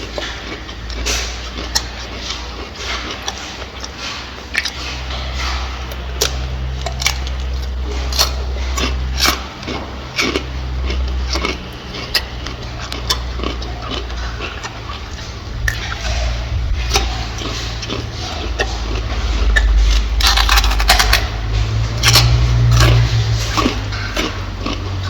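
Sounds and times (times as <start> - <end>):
gorilla chewing and crunching food: 0.0 - 25.0
low rumble: 4.9 - 25.0.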